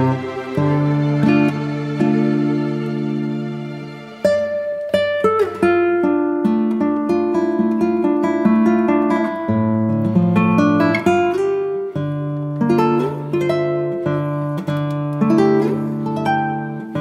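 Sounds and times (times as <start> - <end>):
acoustic guitar plucking: 0.0 - 17.0.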